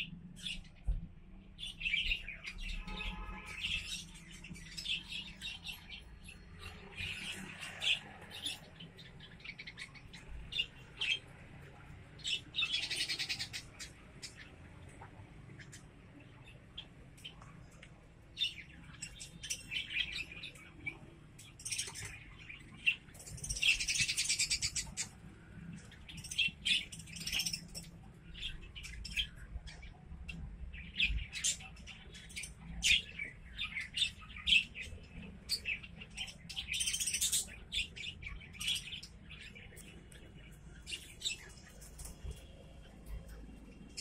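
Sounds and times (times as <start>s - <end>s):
budgerigars chirping and chattering: 0.0s - 1.0s, 1.6s - 44.0s.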